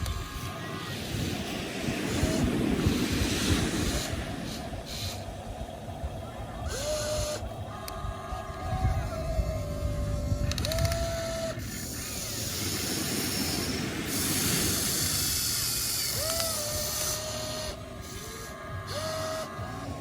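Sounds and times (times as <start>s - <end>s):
small electric motor whining: 0.0s - 20.0s
steady hiss: 0.0s - 20.0s.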